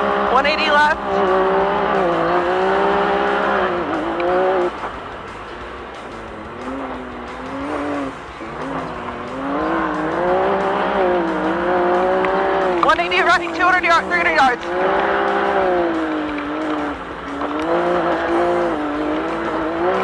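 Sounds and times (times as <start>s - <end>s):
racing engine revving: 0.0s - 20.0s.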